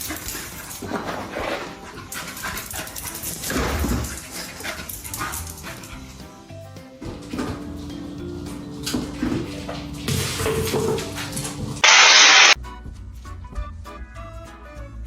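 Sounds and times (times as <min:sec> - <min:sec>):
background music: 0:00.0 - 0:11.8, 0:12.6 - 0:15.0.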